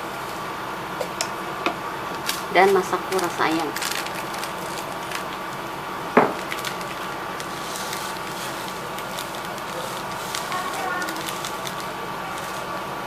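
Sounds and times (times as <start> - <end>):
pot boiling and bubbling: 0.0 - 13.0.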